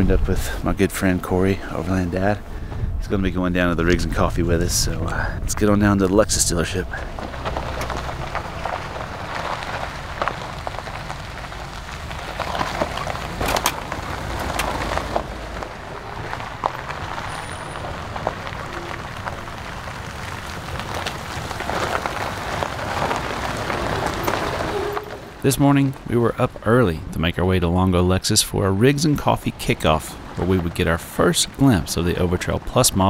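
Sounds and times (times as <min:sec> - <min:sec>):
low engine rumble: 0:00.0 - 0:33.0
tyres crunching on gravel: 0:00.0 - 0:33.0.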